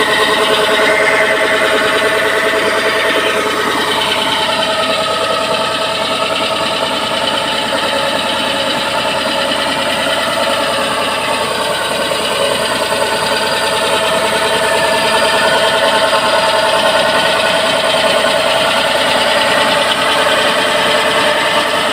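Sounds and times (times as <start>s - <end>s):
drilling machine rattling: 0.0s - 21.9s.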